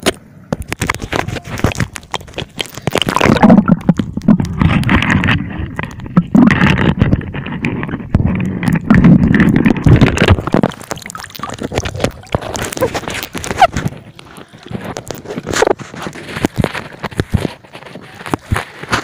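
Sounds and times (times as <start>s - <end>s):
underwater water sloshing: 0.8s - 19.0s.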